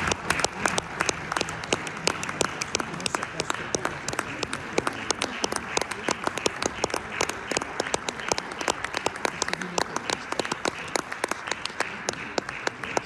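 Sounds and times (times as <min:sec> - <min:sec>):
audience applauding: 0:00.0 - 0:13.0
sharp individual claps: 0:00.0 - 0:13.0.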